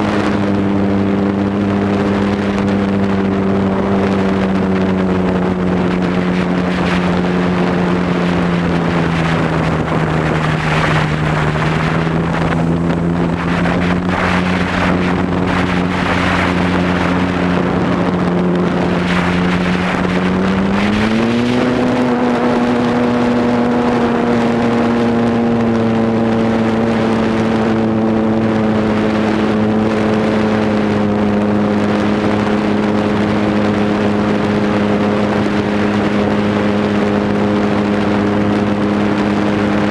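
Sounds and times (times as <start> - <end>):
model airplane motor droning: 0.0 - 39.9
wind on microphone: 0.0 - 39.9.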